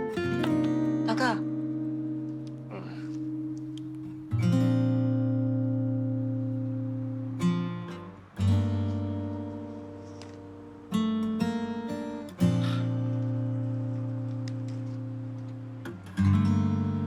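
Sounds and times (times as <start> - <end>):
strummed acoustic guitar chords: 0.0 - 17.0.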